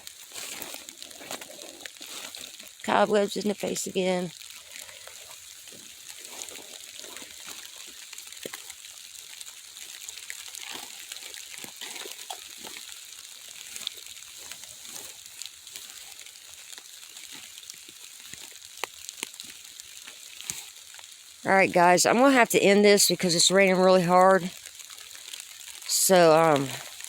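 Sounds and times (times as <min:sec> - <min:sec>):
heavy rain hissing: 0:00.0 - 0:27.0
raindrops ticking: 0:00.0 - 0:27.0.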